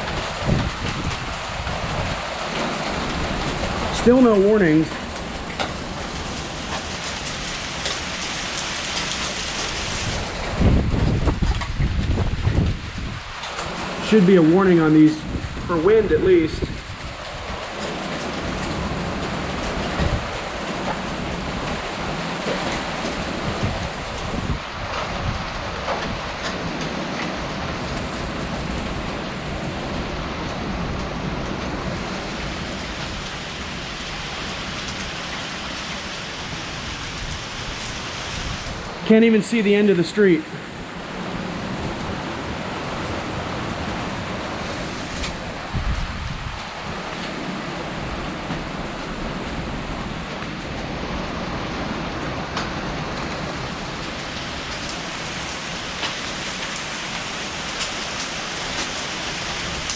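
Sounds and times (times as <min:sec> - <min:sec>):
hailstones ticking: 0:00.0 - 0:15.8, 0:16.6 - 0:45.7, 0:46.6 - 0:59.9
heavy rain pouring: 0:00.0 - 0:59.9
strong wind: 0:00.0 - 0:59.9.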